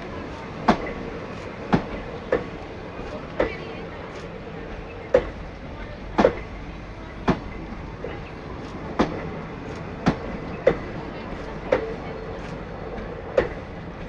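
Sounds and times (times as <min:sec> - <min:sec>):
train rolling rumble: 0:00.0 - 0:14.0
train wheels clacking on rail joints: 0:00.0 - 0:14.0.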